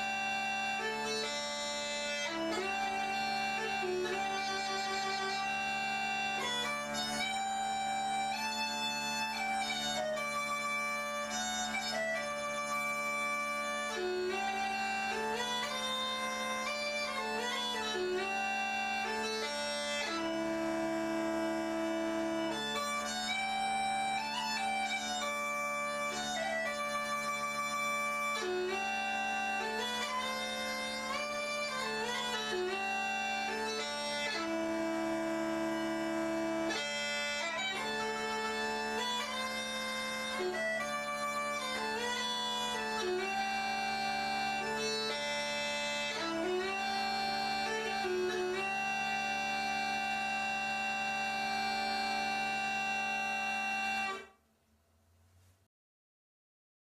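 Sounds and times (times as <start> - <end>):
bagpipe melody over drones: 0.0 - 54.3.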